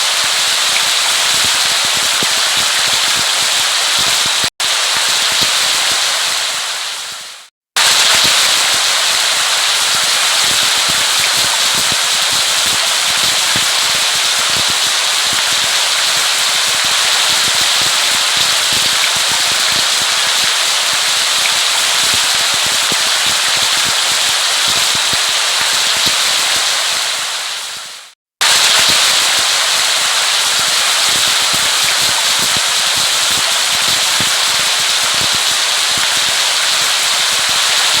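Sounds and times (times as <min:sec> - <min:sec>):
heavy rain on a surface: 0:00.0 - 0:38.0.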